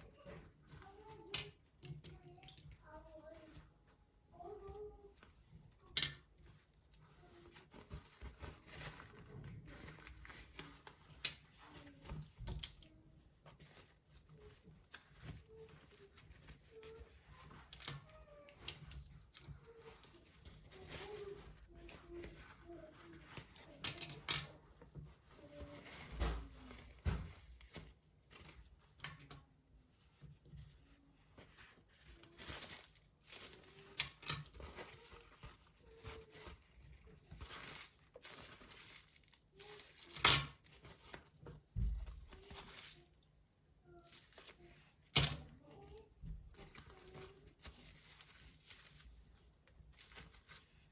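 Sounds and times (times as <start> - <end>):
clicks and knocks of handling: 0.0 - 43.3, 44.0 - 50.9.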